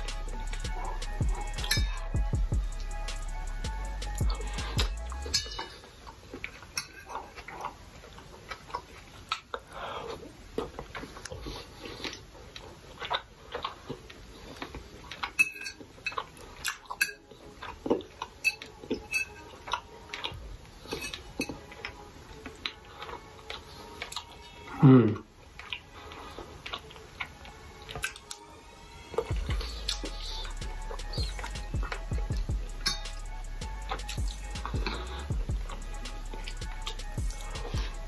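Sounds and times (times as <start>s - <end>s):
chewing: 4.0s - 38.0s.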